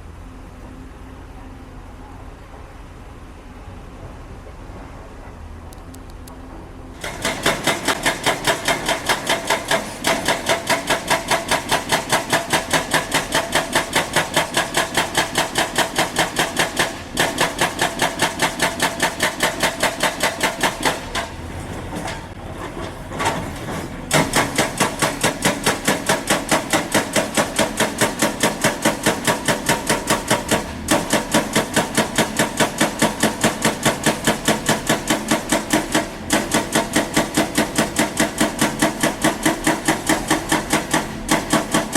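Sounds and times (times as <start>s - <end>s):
hydraulic breaker hammering rock: 7.0s - 41.9s.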